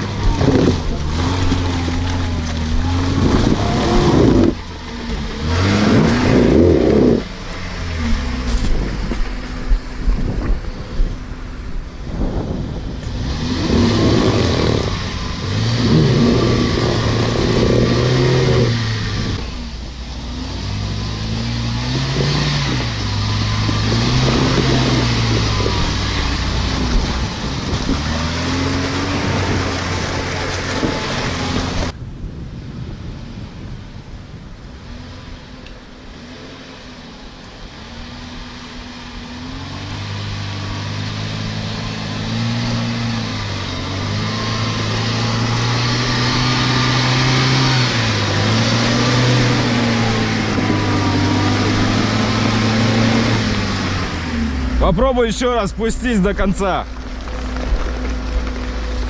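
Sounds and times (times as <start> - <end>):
off-road engine revving: 0.0 - 32.0, 34.6 - 59.0.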